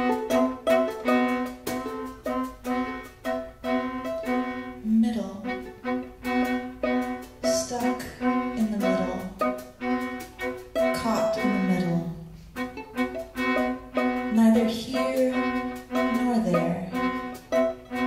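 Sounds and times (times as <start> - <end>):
string quartet playing: 0.0 - 18.0.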